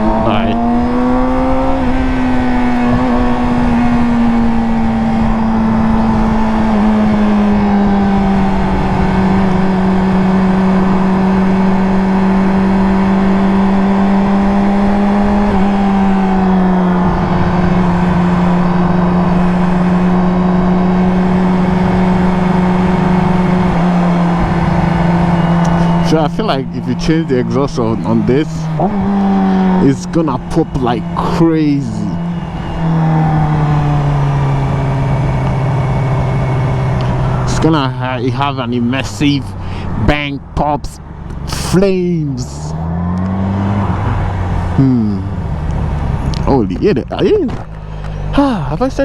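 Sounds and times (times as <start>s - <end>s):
motorcycle engine running at high revs: 0.0s - 49.0s.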